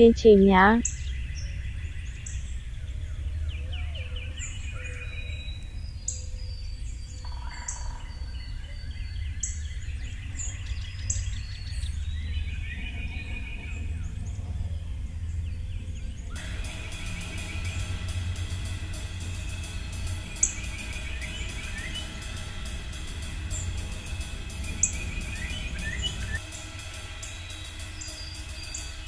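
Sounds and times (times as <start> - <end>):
birds chirping and trilling: 0.0 - 29.0
steady low rumble: 0.0 - 29.0.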